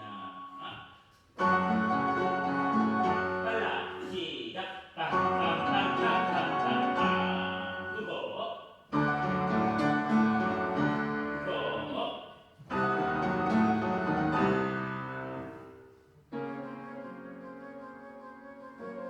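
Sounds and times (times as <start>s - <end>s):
piano accompaniment: 1.4s - 4.3s, 5.0s - 8.1s, 8.9s - 12.0s, 12.6s - 19.0s.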